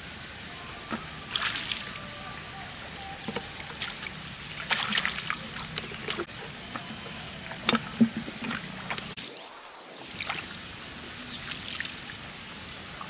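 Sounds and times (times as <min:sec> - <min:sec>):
water splashing and trickling: 0:00.2 - 0:13.0.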